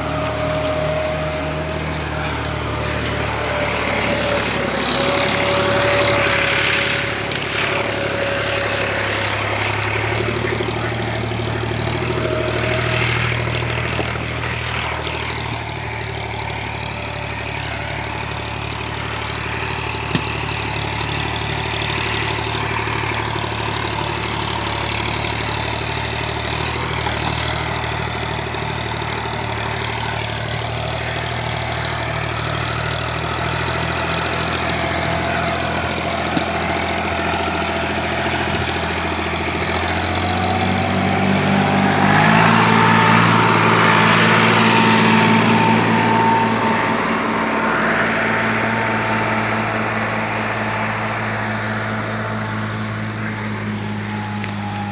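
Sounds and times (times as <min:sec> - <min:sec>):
diesel tractor engine idling: 0:00.0 - 0:54.9.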